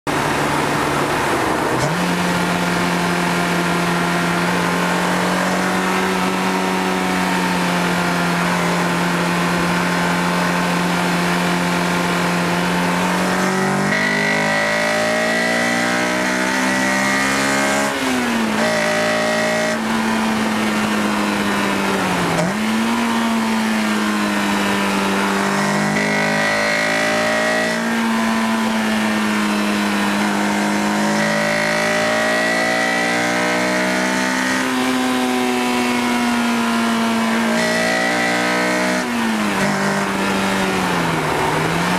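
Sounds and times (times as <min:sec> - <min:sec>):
car engine running: 0:00.1 - 0:34.8.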